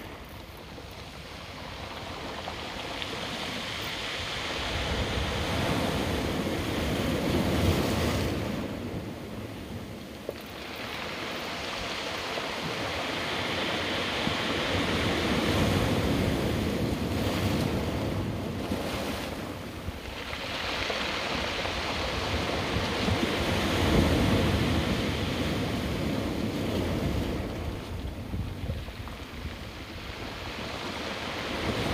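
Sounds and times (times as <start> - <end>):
surf washing onto rocks: 0.0 - 31.9
wind buffeting microphone: 0.0 - 31.9.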